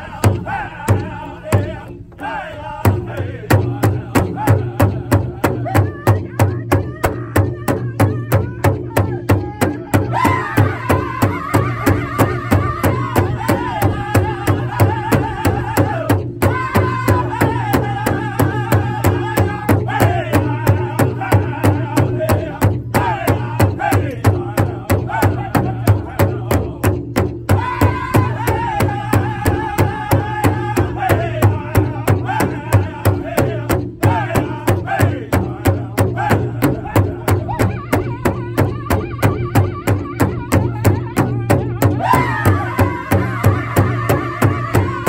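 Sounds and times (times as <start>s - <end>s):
drum beating fast: 0.0s - 2.1s, 2.8s - 45.0s
men singing in unison: 0.0s - 45.0s.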